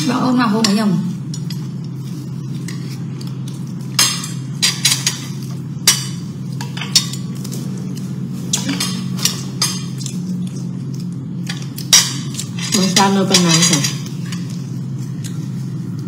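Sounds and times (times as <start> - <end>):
steady low hum: 0.0 - 16.0
utensils clinking against dishes: 0.0 - 16.0.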